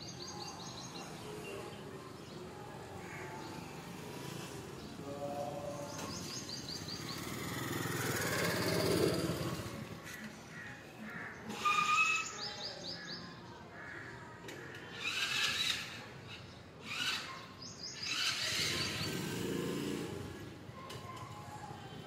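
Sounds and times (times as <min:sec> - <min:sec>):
birds chirping: 0:00.0 - 0:20.6.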